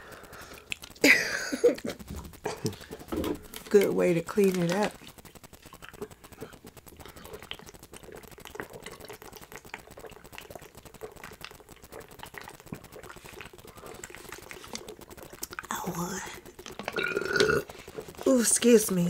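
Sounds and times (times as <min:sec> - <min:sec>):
wet eating clicks and smacks: 0:00.1 - 0:18.3.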